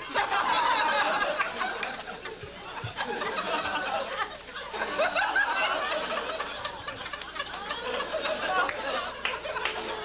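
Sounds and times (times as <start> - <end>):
audience laughing: 0.0 - 10.0.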